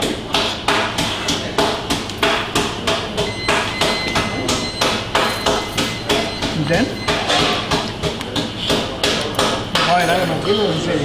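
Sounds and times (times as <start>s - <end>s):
rhythmic knocking: 0.0s - 10.2s.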